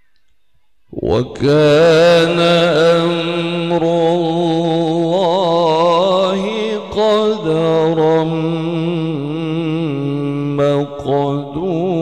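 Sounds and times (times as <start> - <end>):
man chanting recitation into microphone: 0.8 - 12.0.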